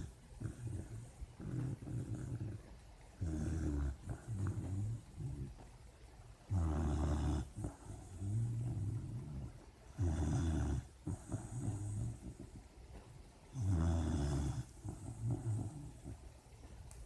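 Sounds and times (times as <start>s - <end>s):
puppy snoring: 0.0s - 5.8s, 6.4s - 16.6s.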